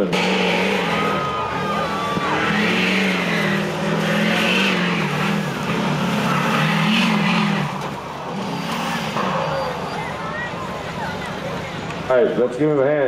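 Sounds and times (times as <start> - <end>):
diesel truck engine under load: 0.0 - 12.1.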